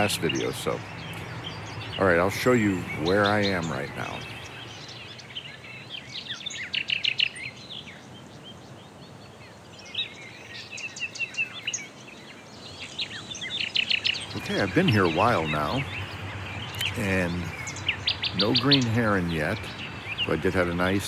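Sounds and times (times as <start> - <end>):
small birds chirping: 0.0 - 21.0
steady outdoor hiss: 0.0 - 21.0.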